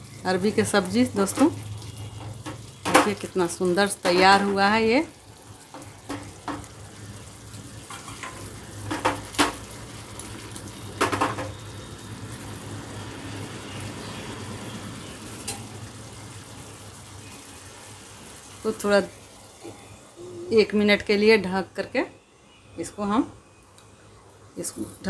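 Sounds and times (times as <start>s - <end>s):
curry sizzling in a frying pan: 0.0s - 25.0s.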